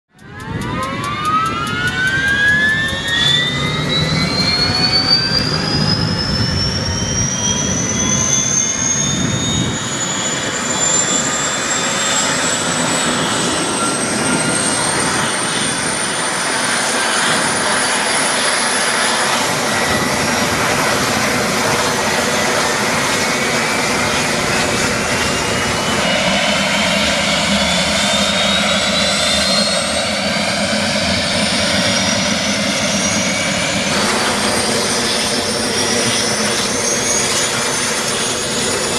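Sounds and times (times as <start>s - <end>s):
helicopter engine whining: 0.1s - 38.9s
second rising whine: 0.1s - 38.9s.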